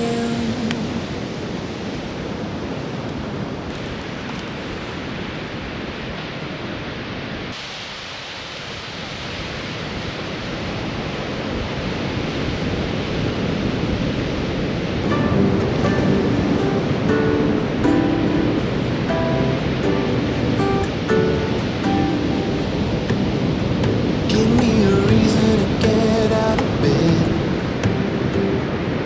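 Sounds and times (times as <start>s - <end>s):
ocean surf on sandy beach: 0.0s - 29.0s.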